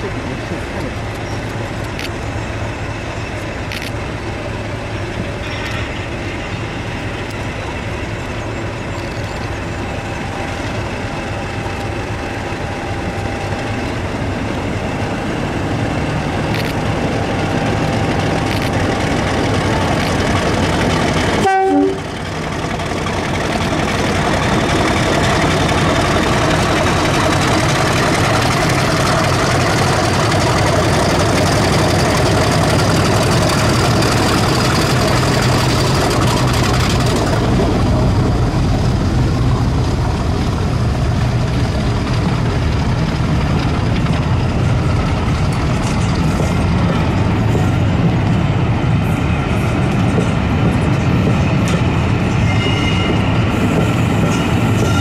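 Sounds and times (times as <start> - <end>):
diesel locomotive engines running: 0.0 - 55.0.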